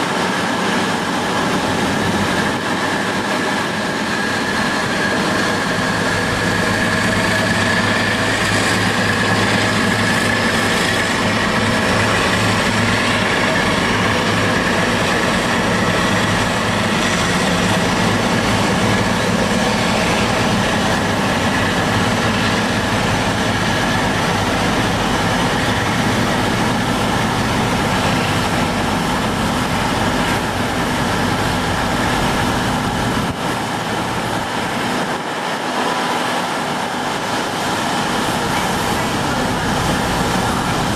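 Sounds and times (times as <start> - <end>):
diesel locomotive engines droning: 0.0 - 40.9.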